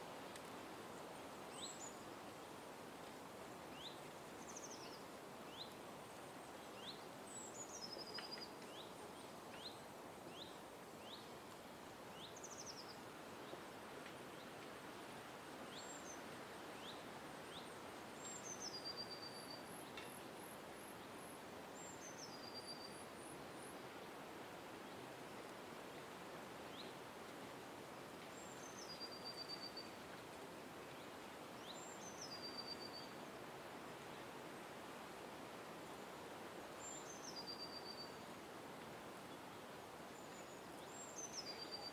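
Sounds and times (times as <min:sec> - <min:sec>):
background hiss: 0:00.0 - 0:41.9.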